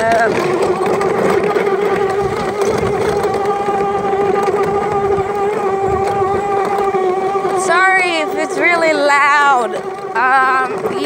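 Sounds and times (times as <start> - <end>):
electric quad motor whining: 0.0 - 11.0.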